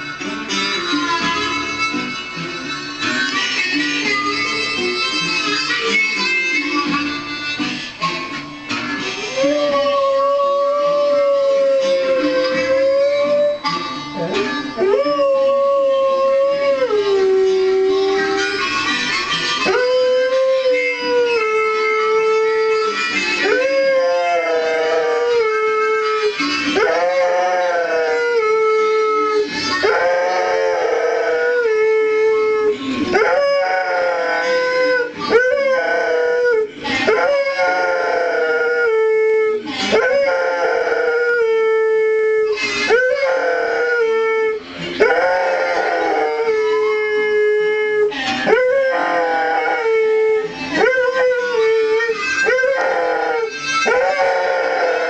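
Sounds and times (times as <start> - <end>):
music: 0.0 - 55.0
dog howling: 9.2 - 18.6, 19.6 - 55.0.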